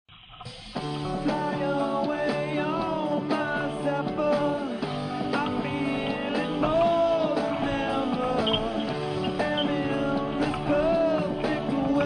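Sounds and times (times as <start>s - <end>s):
music with steady beat: 0.5s - 12.0s.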